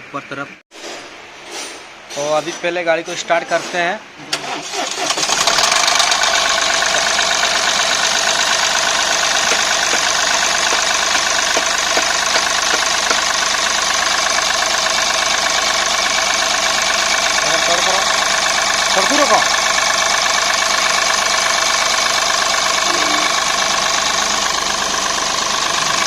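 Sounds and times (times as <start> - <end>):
diesel engine starting and idling: 4.3 - 26.0.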